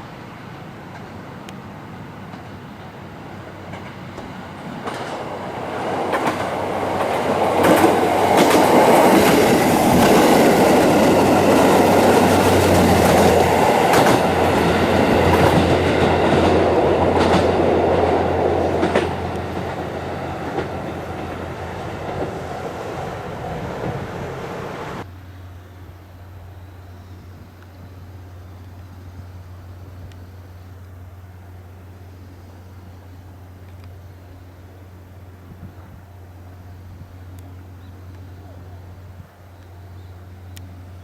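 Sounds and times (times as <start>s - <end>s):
diesel railcar passing: 0.0s - 41.0s.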